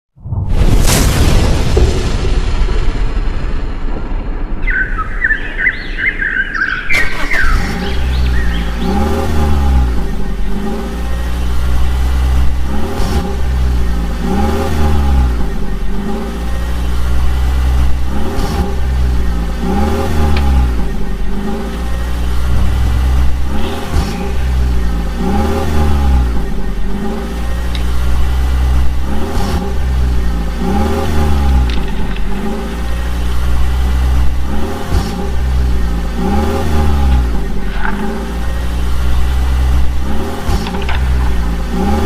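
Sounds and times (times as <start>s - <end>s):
vehicle engine revving: 6.6s - 42.0s.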